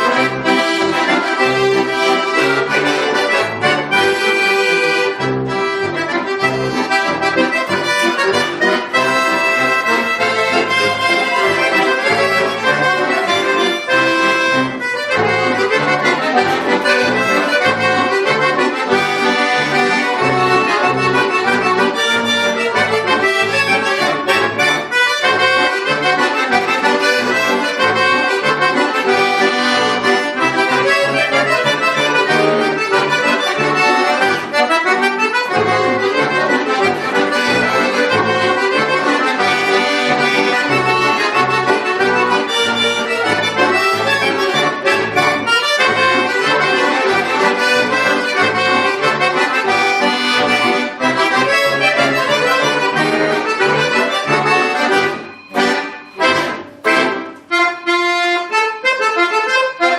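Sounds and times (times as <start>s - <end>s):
button accordion playing: 0.0s - 59.9s.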